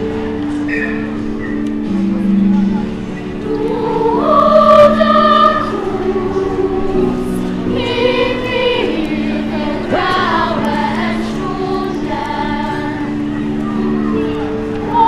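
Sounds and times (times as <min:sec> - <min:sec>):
children's choir singing: 0:02.0 - 0:15.0.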